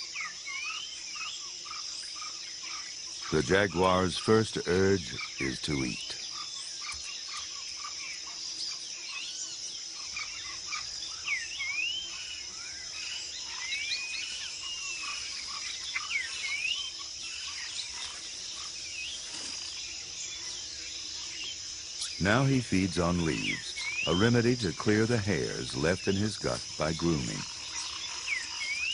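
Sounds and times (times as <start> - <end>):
insects chorus: 0.0 - 28.9.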